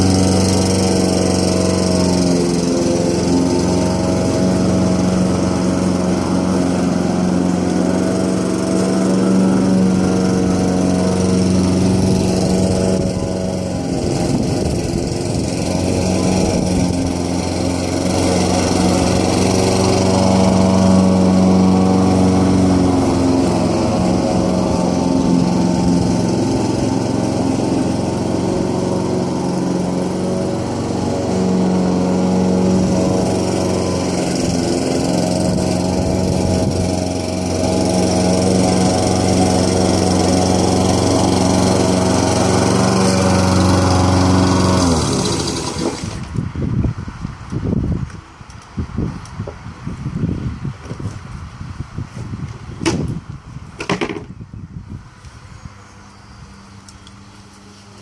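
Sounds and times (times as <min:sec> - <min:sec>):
lawn mower engine running: 0:00.0 - 0:54.4, 0:55.0 - 0:58.0.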